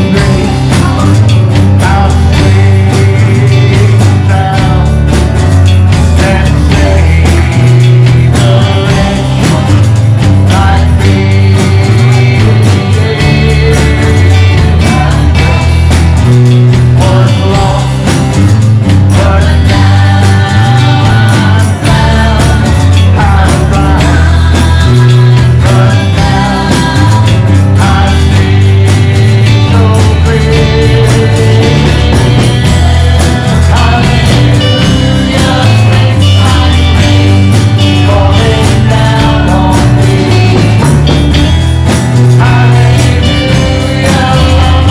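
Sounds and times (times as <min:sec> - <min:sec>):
drum and cymbal hits: 0:00.0 - 0:44.9
held bass notes: 0:00.0 - 0:44.9
person singing: 0:00.0 - 0:44.9
worship band playing: 0:00.0 - 0:44.9.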